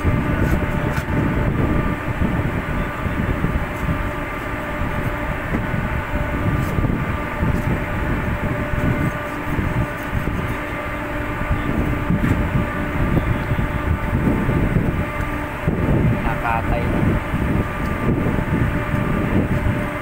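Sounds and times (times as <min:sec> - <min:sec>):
ship machinery rumble: 0:00.0 - 0:20.0.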